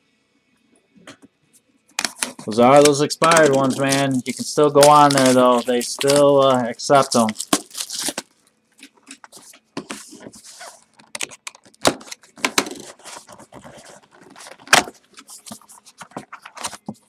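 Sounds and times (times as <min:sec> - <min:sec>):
cardboard box rustling and scraping: 0:02.0 - 0:08.2, 0:09.1 - 0:17.0.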